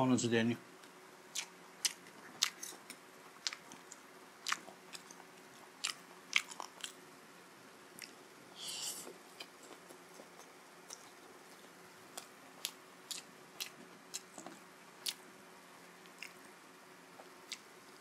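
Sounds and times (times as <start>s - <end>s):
quiet chewing with clicks: 0.8s - 7.0s, 7.9s - 8.2s, 9.0s - 15.3s, 15.9s - 18.0s.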